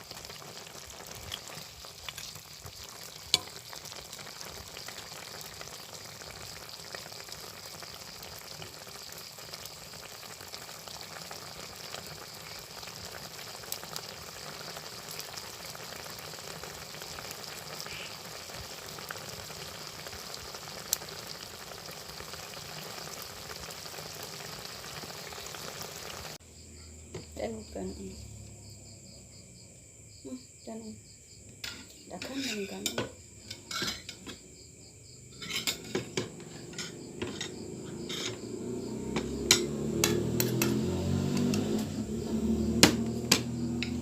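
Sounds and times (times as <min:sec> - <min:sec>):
chicken sizzling in a pan: 0:00.0 - 0:26.4, 0:31.6 - 0:44.0.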